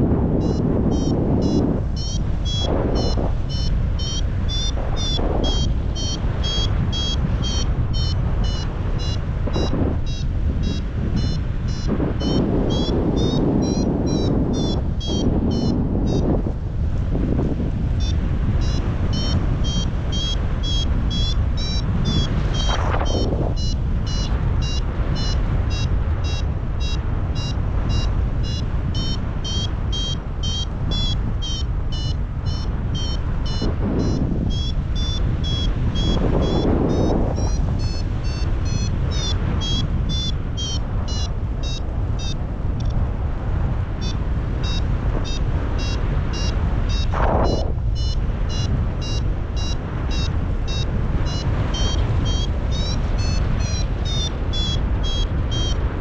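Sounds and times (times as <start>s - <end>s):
variometer beeping: 0.0s - 16.5s, 18.0s - 43.1s, 44.0s - 56.0s
wind noise on microphone: 0.0s - 56.0s.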